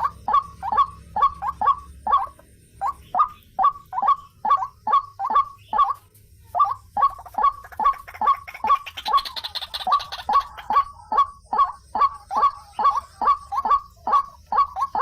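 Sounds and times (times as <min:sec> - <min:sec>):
bird calling harsh repeated notes: 0:00.0 - 0:15.0.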